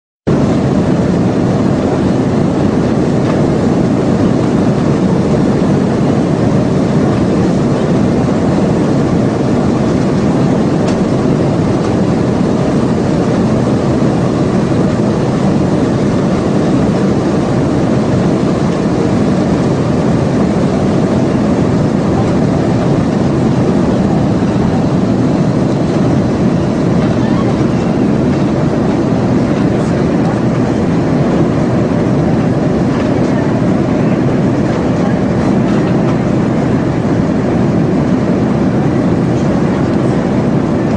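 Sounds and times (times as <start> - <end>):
aeroplane taking off: 0.3 - 40.9.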